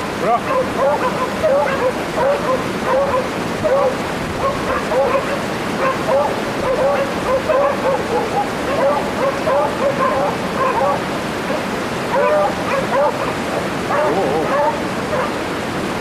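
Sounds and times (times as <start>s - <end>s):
dogs barking: 0.2s - 15.4s.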